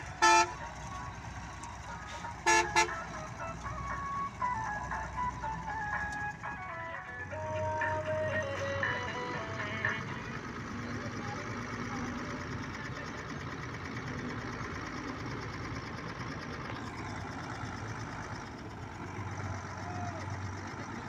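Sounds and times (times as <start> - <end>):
combine harvester diesel engine running: 0.0 - 21.0.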